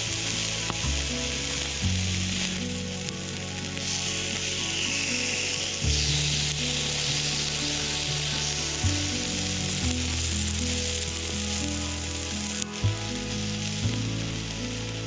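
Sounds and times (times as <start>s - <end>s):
background music: 0.0s - 15.0s
food sizzling in hot fat: 0.0s - 15.0s.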